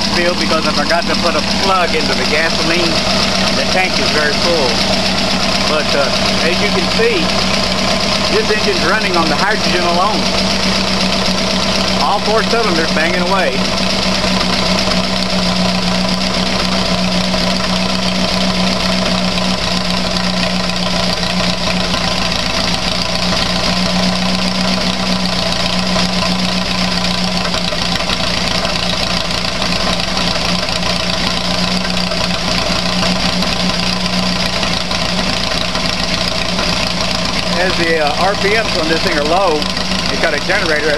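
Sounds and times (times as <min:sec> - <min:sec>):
car engine at fast idle: 0:00.0 - 0:40.9.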